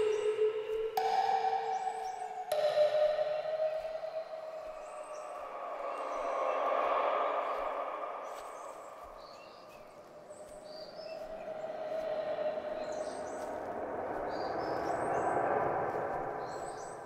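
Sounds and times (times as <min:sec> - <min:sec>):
bird chirps: 0:00.0 - 0:17.0
steady rushing noise: 0:01.0 - 0:17.0.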